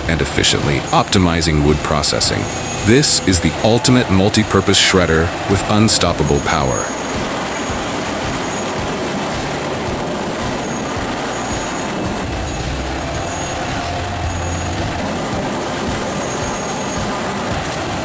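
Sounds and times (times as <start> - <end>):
constant grinding noise: 0.0 - 18.0
wood shredder engine rumbling: 0.0 - 18.0.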